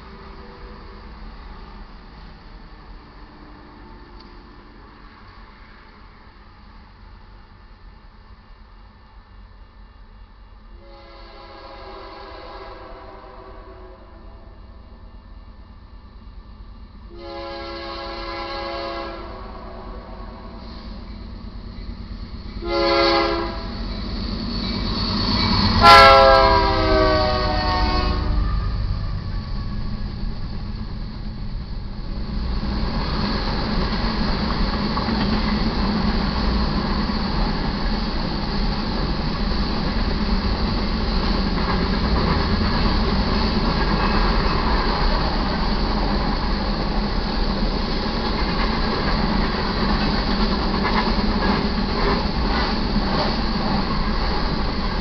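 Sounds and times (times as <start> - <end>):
diesel locomotive passing: 0.0 - 55.0
steel wheels rumbling on rail: 0.0 - 55.0.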